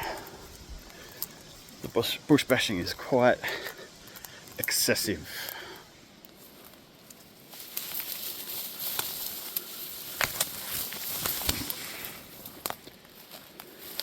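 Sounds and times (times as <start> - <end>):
twigs snapping: 0.0 - 1.9, 3.4 - 4.8, 5.4 - 14.0
leaves and branches rustling: 0.0 - 14.0.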